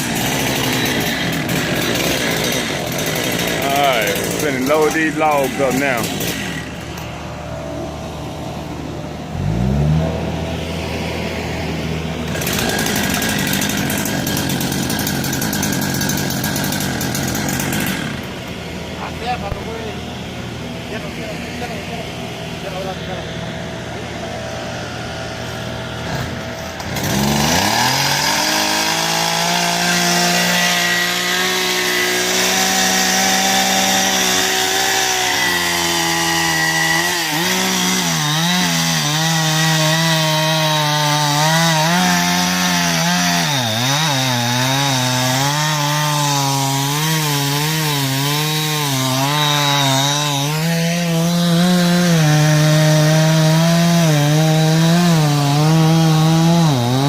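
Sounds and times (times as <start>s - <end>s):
chainsaw cutting wood: 0.0s - 8.6s, 9.2s - 57.0s.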